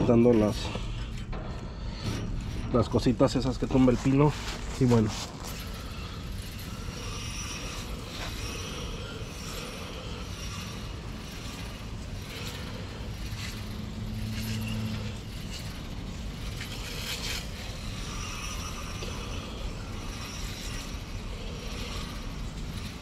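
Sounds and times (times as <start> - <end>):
low hum: 0.0 - 23.0
outdoor background rumble: 0.0 - 23.0.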